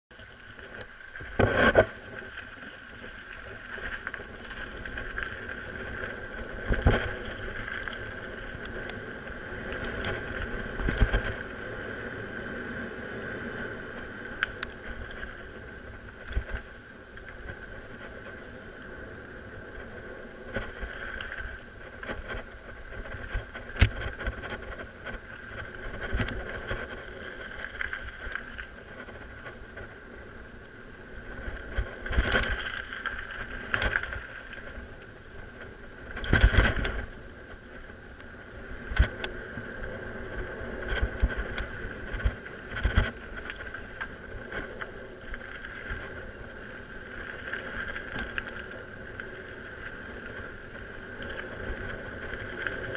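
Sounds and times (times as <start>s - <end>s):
bike tyres rumbling on dirt trail: 0.1s - 52.9s.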